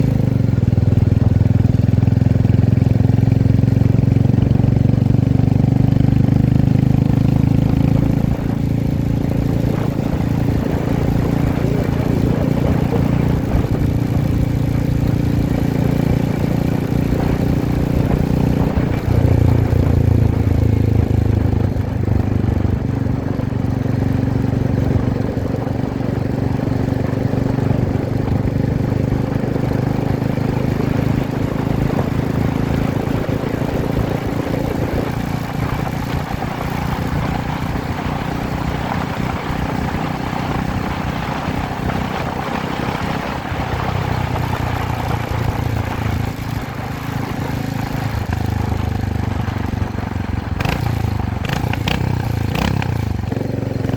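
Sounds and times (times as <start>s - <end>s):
motorcycle engine running: 0.0s - 53.9s
road noise: 0.0s - 53.9s.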